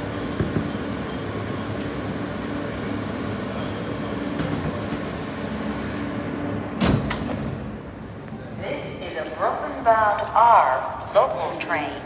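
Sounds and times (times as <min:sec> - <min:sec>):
subway train hum and rumble: 0:00.0 - 0:12.0.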